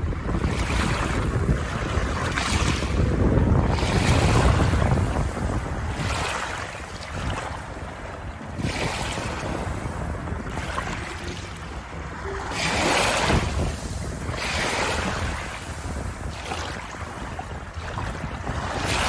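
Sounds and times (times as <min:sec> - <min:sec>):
waves washing in: 0:00.0 - 0:19.0.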